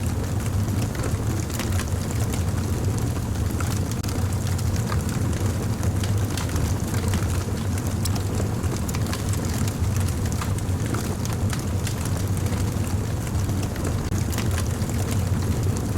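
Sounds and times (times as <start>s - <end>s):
fire crackling and popping: 0.0s - 15.9s.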